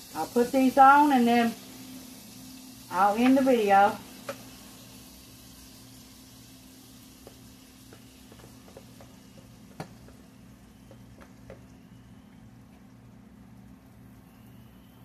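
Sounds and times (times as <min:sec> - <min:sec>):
low steady hum: 0:00.0 - 0:15.0
pancakes sizzling: 0:00.0 - 0:15.0.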